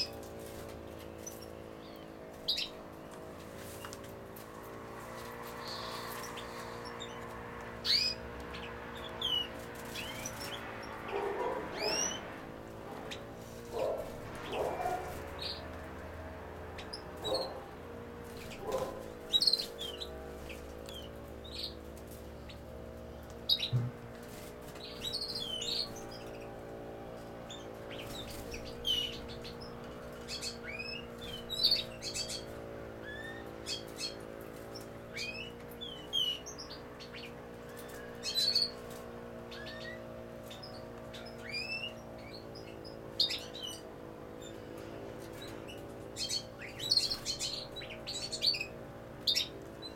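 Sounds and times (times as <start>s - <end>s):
steady low hum: 0.0s - 49.9s
goldfinches chirping: 0.9s - 4.0s, 5.2s - 26.8s, 27.4s - 44.6s, 45.3s - 49.9s.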